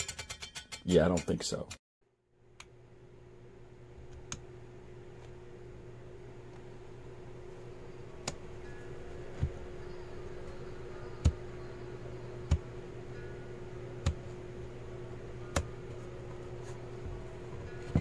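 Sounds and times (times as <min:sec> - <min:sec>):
electric heater fan humming: 0:02.4 - 0:18.0.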